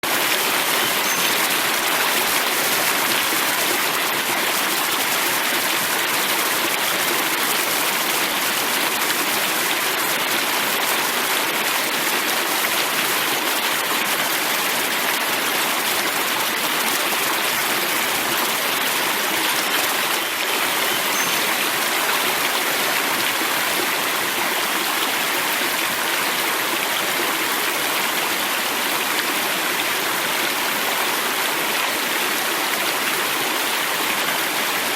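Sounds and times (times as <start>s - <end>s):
river water over rocks: 0.0s - 34.9s.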